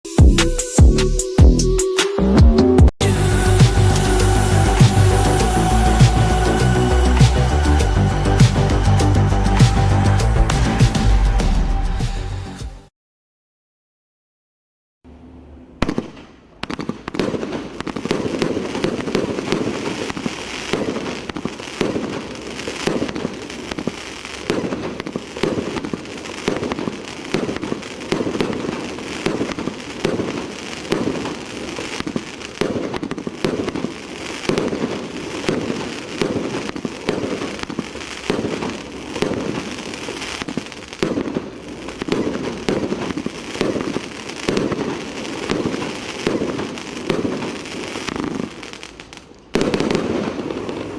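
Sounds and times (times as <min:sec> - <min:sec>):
fireworks barrage rapid shots: 0:03.0 - 0:11.7, 0:15.8 - 0:50.9.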